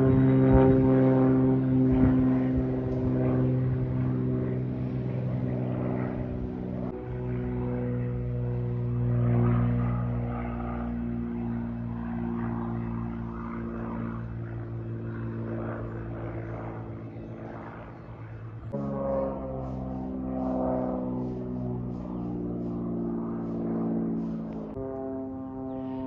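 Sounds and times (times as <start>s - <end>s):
propeller airplane drone: 0.0s - 26.0s.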